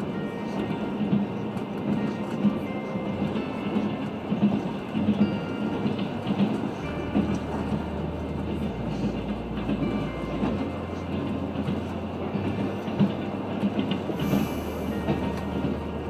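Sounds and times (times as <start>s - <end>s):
short knocks of train: 0.0s - 16.0s
train wheels rumbling on rails: 0.0s - 16.0s.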